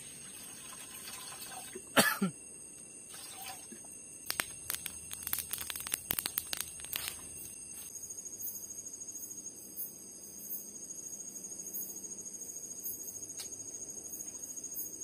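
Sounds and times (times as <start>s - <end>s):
night insects droning: 0.0s - 15.0s
pulsing insect trill: 0.0s - 15.0s.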